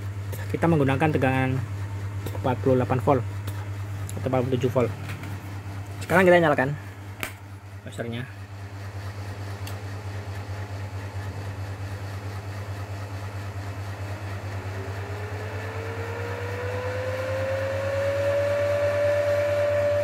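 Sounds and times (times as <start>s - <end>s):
cooling fan whine: 0.0s - 20.0s
steady low hum: 0.0s - 20.0s.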